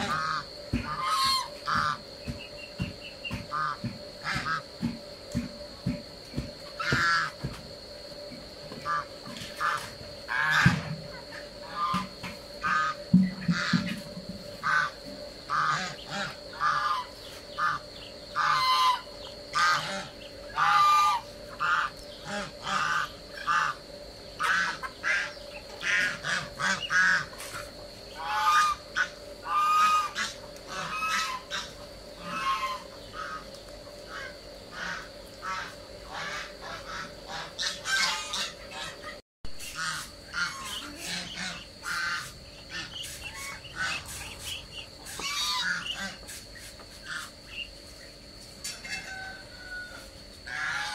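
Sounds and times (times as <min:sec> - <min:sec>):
geese honking: 0:00.0 - 0:04.8, 0:06.8 - 0:07.5, 0:08.7 - 0:46.4, 0:47.0 - 0:47.8, 0:50.5 - 0:50.9.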